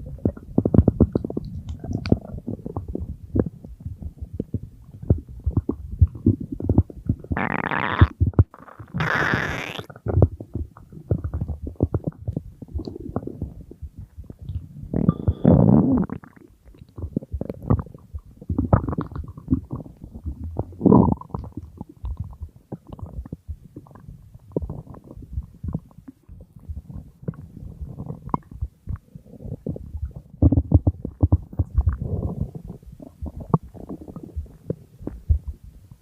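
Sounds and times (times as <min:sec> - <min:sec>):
stomach growling and gurgling: 0:00.0 - 0:36.0.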